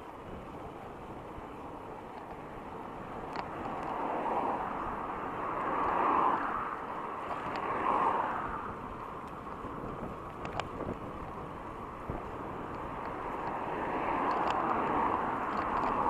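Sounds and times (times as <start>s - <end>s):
road traffic rushing past: 2.4s - 16.0s.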